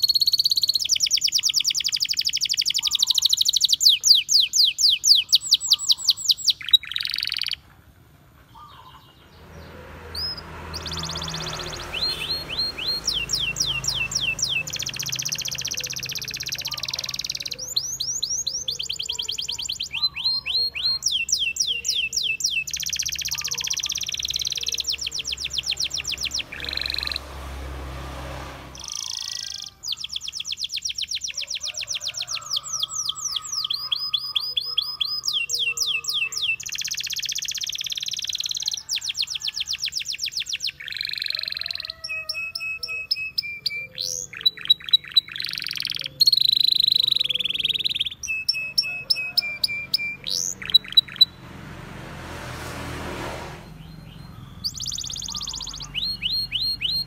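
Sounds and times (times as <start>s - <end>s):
canary singing: 0.0s - 51.7s, 53.6s - 57.0s.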